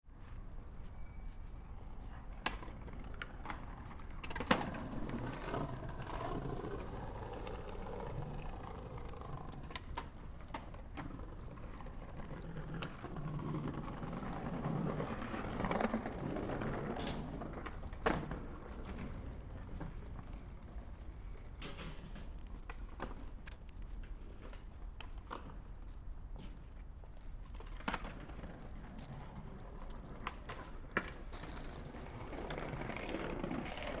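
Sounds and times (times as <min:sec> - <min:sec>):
skateboard wheels rolling on pavement: 0:00.1 - 0:34.0
skateboard clacking on ground: 0:02.2 - 0:25.6, 0:27.5 - 0:34.0.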